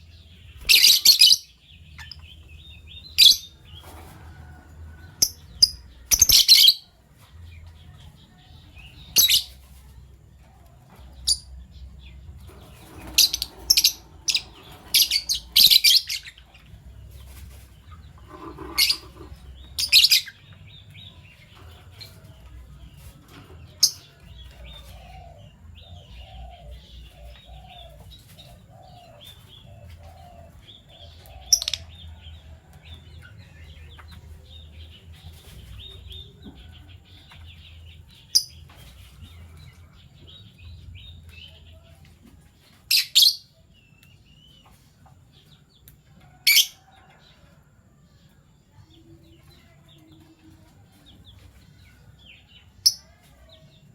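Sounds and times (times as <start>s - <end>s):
lovebirds chirping: 0.0s - 47.1s.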